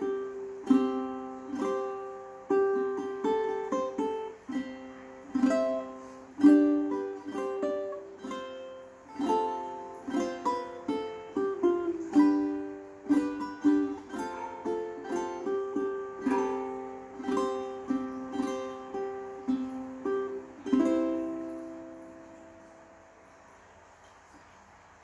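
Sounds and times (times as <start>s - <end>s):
ukulele melody: 0.0s - 24.6s.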